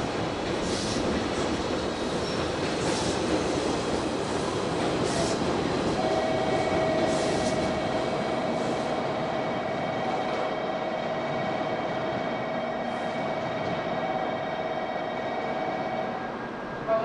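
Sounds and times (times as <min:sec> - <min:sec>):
electric train rumbling past: 0:00.0 - 0:17.0.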